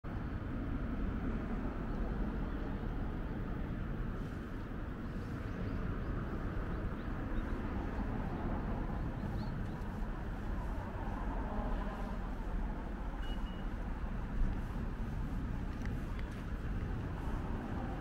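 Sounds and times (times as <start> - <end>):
outdoor background rumble: 0.0 - 18.0.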